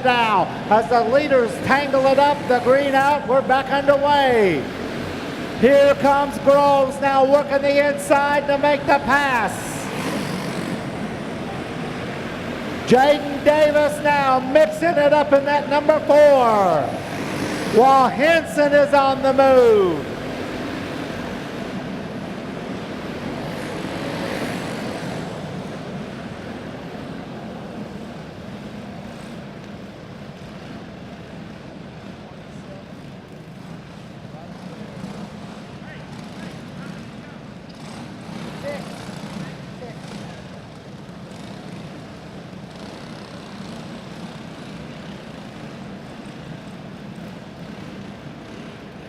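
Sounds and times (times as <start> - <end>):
kart engines droning: 0.0 - 49.0.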